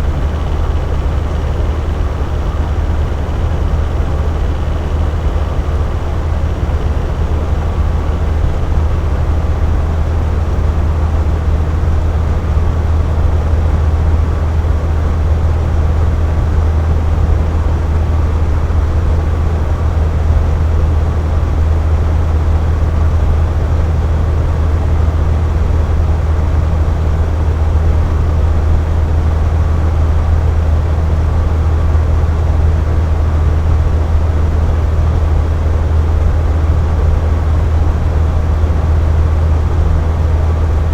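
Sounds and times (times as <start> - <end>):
box fan running: 0.0 - 40.9.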